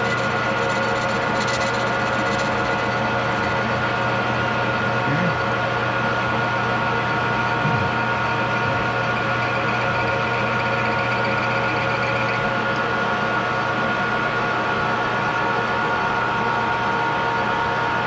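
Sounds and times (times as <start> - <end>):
metal lathe hum and whine: 0.0 - 18.0.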